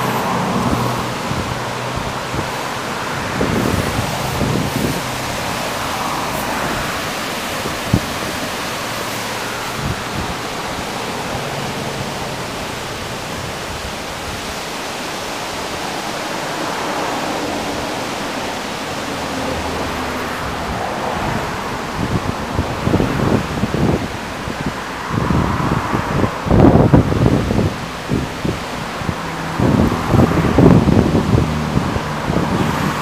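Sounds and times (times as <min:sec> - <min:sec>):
river rushing through rapids: 0:00.0 - 0:33.0.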